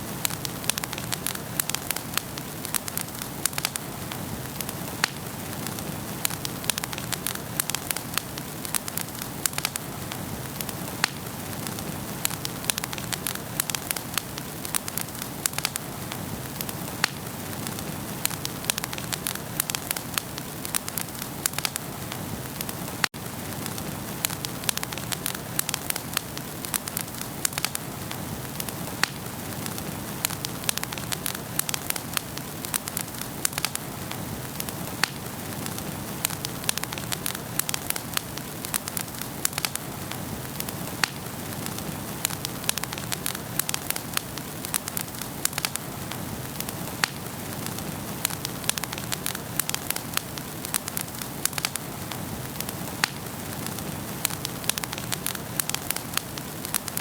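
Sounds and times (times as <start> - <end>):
wood fire hissing and crackling: 0.0 - 57.0.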